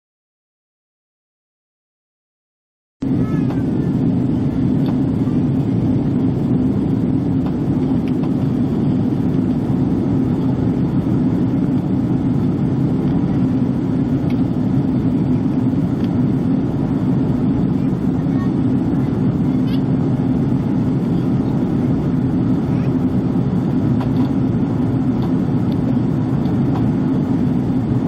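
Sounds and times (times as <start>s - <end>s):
airplane cabin engine rumble: 3.0s - 28.0s.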